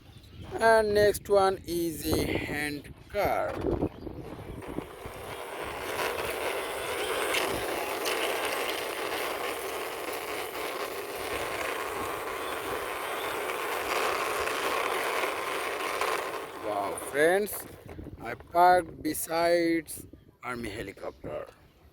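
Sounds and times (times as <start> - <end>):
toy wheels rolling on hard surface: 1.7 - 20.0.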